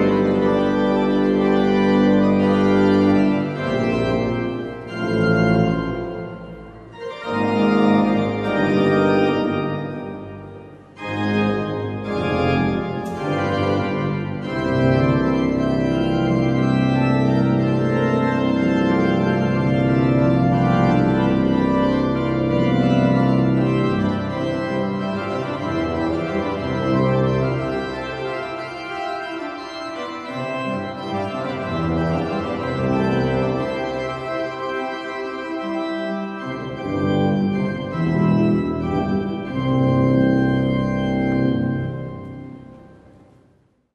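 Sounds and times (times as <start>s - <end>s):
organ chords: 0.0s - 43.8s.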